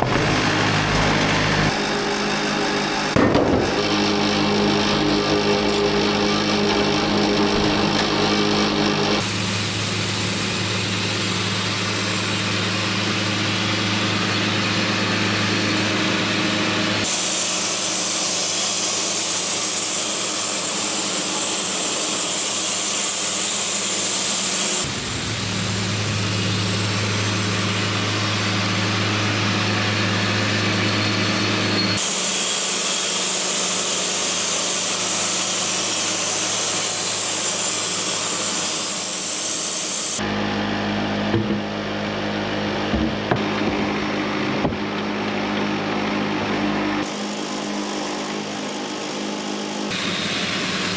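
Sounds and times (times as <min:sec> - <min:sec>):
saw cutting wood: 0:00.0 - 0:25.2, 0:27.0 - 0:40.3, 0:47.0 - 0:50.9
sawmill engine hum: 0:00.0 - 0:50.9.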